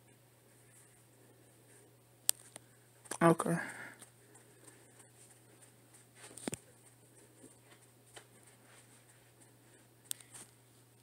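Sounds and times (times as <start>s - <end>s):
faint soft clicks and rustles: 0.5s - 3.3s, 3.9s - 11.0s.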